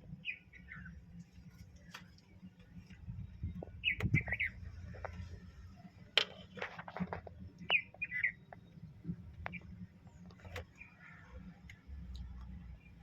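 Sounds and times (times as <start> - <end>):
small birds chirping: 0.1 - 6.6, 7.2 - 13.0.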